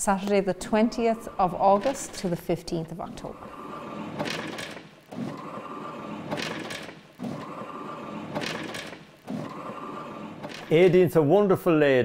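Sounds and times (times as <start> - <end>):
roller shutter motor whirring: 1.0 - 11.2.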